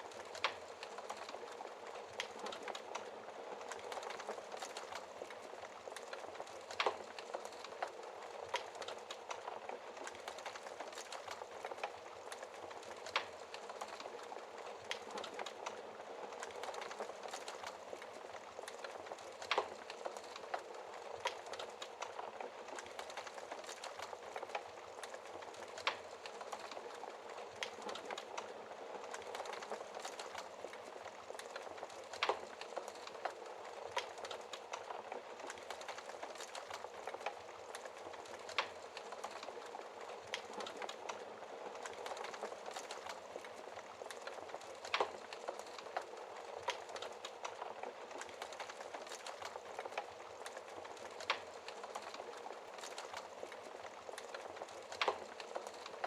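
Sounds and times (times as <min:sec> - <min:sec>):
fire crackling and hissing: 0:00.0 - 0:56.0
fire popping: 0:00.0 - 0:56.0.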